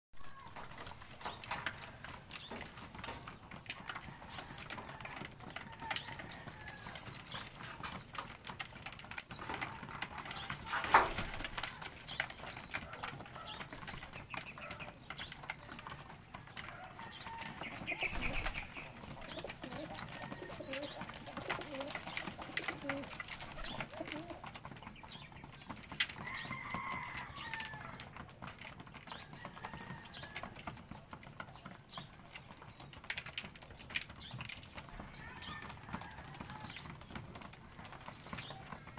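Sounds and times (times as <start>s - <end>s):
wings flapping: 0.2s - 38.9s
birds pecking taps: 0.6s - 38.9s.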